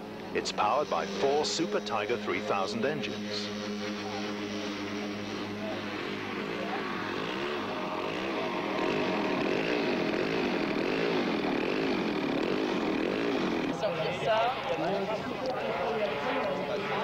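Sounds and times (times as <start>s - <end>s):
model airplane engines droning: 0.0s - 17.0s.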